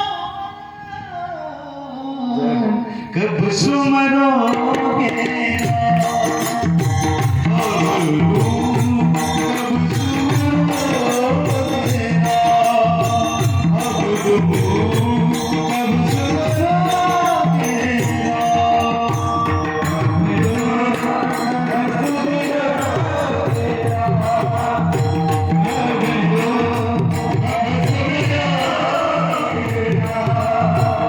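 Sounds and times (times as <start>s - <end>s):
hand percussion with jingles: 4.5s - 31.0s.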